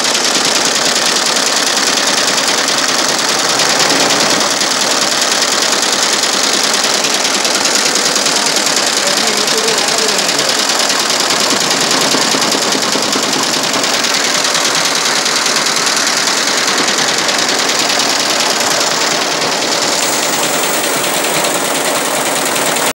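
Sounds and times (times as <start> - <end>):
embroidery machine stitching: 0.0 - 22.9.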